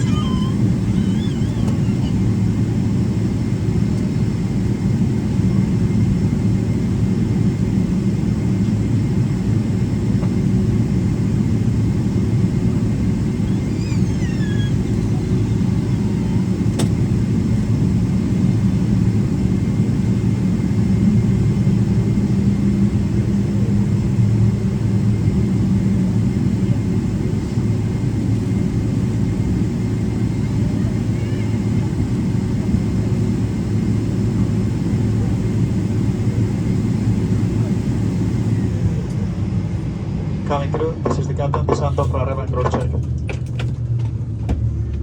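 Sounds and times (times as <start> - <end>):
jet engines idling in cabin: 0.0 - 45.0.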